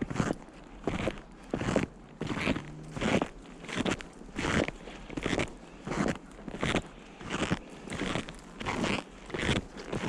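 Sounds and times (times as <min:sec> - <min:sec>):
footsteps crunching in snow: 0:00.0 - 0:10.0.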